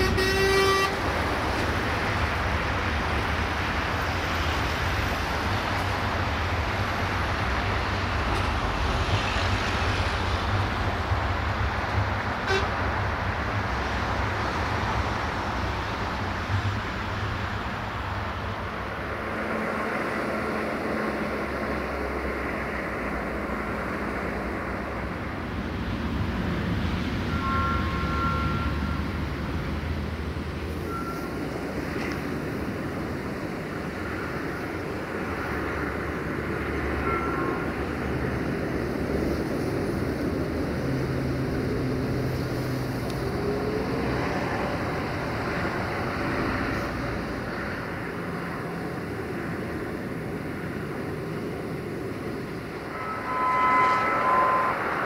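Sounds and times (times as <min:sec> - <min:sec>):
distant diesel train engine: 0:00.0 - 0:55.0.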